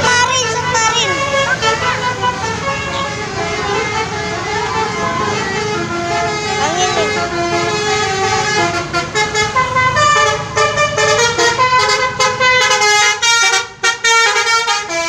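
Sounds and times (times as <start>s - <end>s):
low engine rumble: 0.0s - 12.7s
musical air horn tune: 0.8s - 15.0s.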